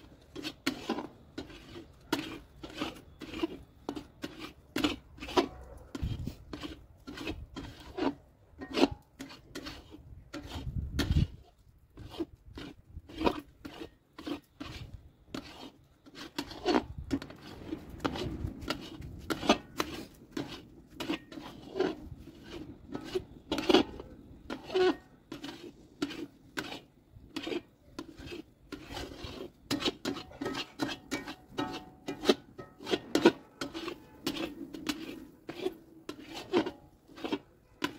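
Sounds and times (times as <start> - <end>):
metal spatula scraping metal pan: 0.0 - 37.9.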